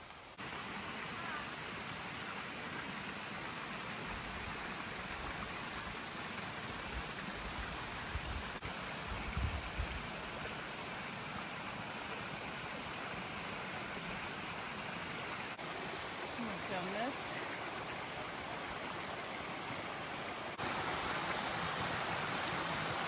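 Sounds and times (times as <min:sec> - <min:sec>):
stream splashing over rocks: 0:00.0 - 0:23.0.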